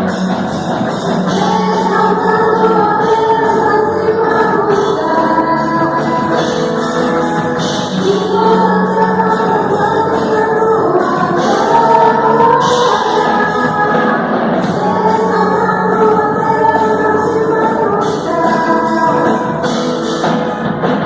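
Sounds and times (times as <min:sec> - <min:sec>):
instrumental accompaniment: 0:00.0 - 0:21.0
group singing gospel song: 0:01.3 - 0:06.7, 0:07.6 - 0:19.5.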